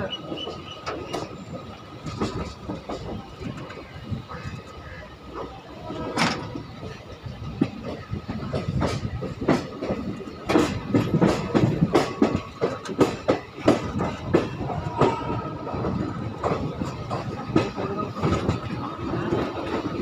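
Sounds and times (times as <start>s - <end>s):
train rumble: 0.0s - 20.0s
wheels clattering over rail joints: 0.0s - 20.0s.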